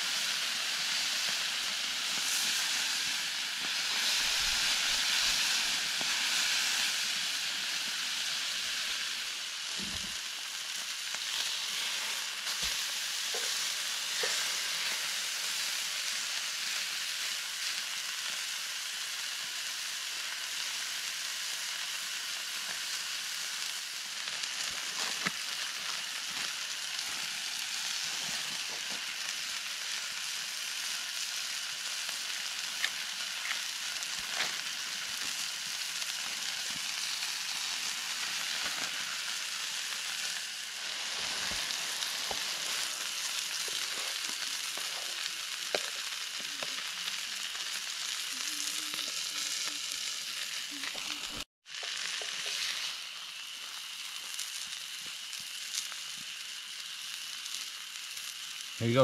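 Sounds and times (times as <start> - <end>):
sharp pops of frying: 0.0 - 58.6
meat sizzling: 0.0 - 59.0.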